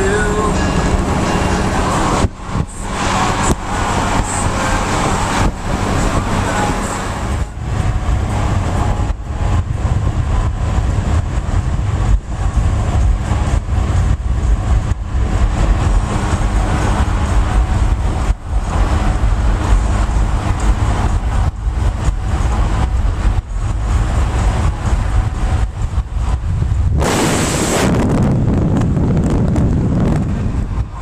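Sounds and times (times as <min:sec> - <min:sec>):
car road and wind noise: 0:00.0 - 0:31.0.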